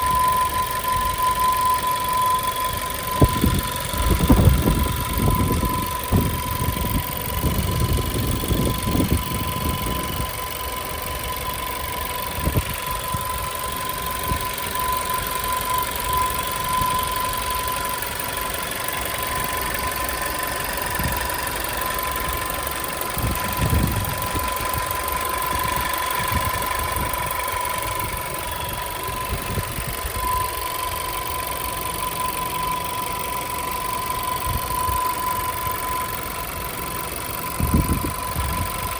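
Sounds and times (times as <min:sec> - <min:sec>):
car engine idling: 0:00.0 - 0:38.9
loud steady high whistle: 0:00.0 - 0:38.9.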